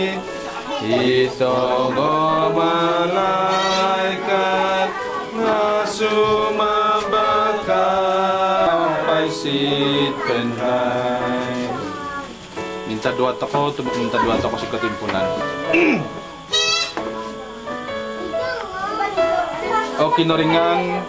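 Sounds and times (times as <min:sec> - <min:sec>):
voices singing a hymn: 0:00.0 - 0:17.6, 0:19.4 - 0:21.0.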